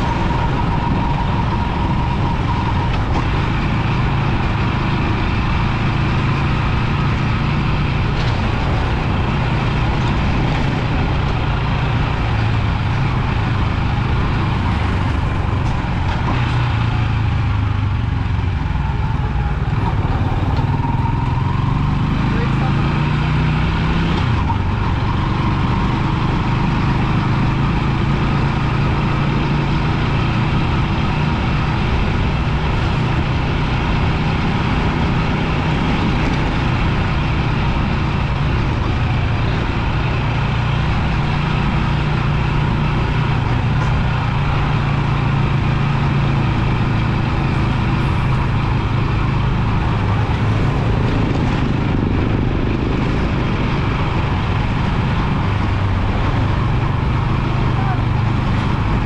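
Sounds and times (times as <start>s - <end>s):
motorbike engine running: 0.0s - 59.0s
road noise: 0.0s - 59.0s.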